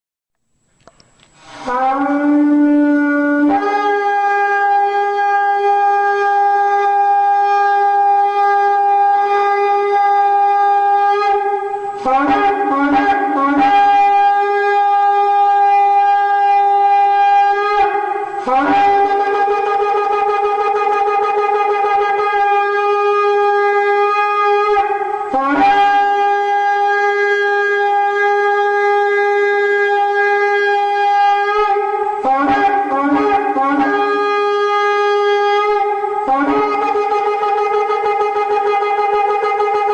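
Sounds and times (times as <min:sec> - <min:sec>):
shofar blasts: 0:01.4 - 0:39.9.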